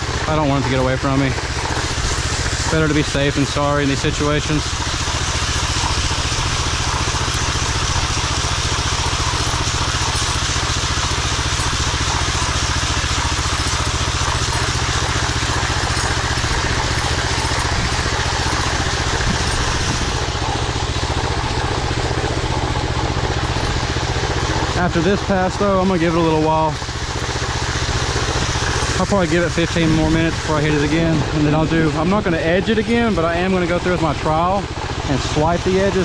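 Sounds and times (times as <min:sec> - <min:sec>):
power trowel engine running: 0:00.0 - 0:36.0.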